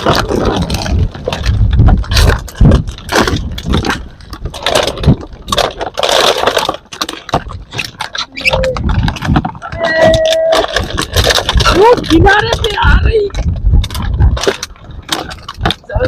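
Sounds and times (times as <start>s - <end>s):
plastic bottles crinkling and knocking: 0.0s - 16.0s.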